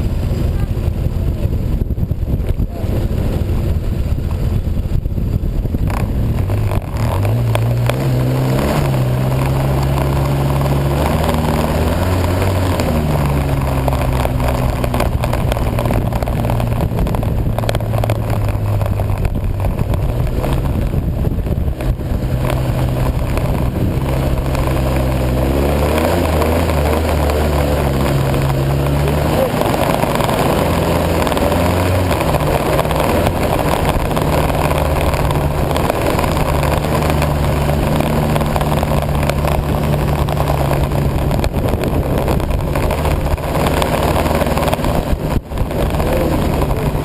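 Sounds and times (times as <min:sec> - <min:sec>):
snowmobile engine running: 0:00.0 - 0:47.0.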